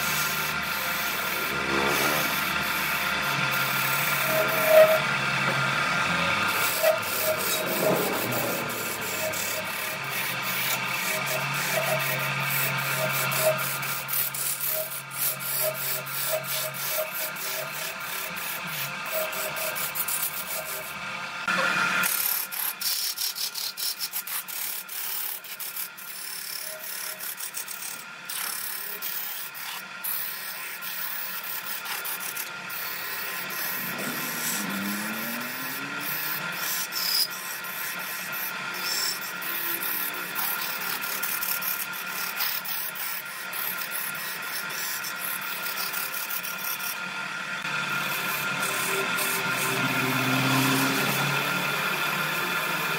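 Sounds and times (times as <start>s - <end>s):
gouge scraping wood on lathe: 0.0s - 52.9s.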